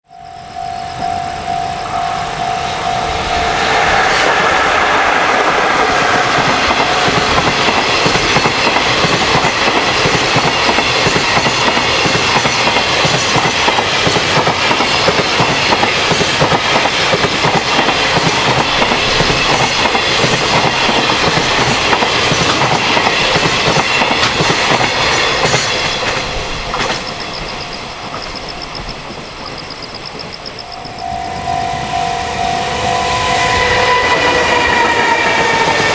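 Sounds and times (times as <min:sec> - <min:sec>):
freight train passing: 0:00.1 - 0:35.9.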